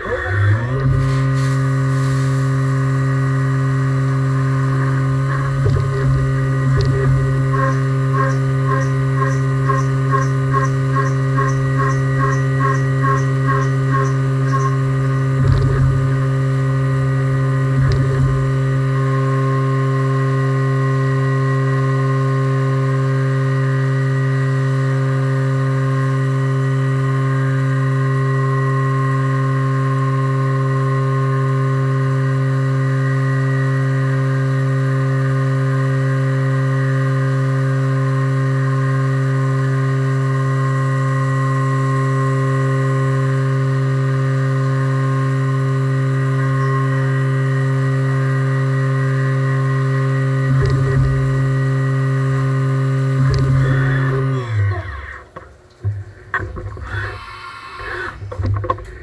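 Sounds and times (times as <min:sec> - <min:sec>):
milling machine spindle hum: 0:00.0 - 0:59.0.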